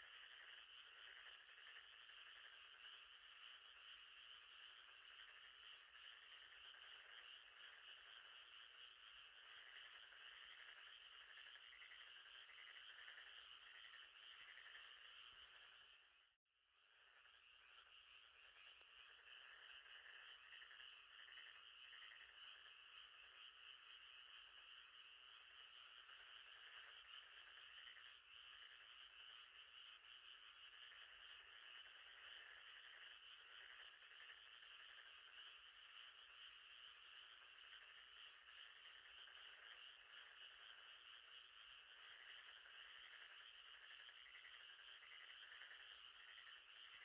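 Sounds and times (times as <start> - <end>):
frogs chorus at night: 0.0 - 47.0.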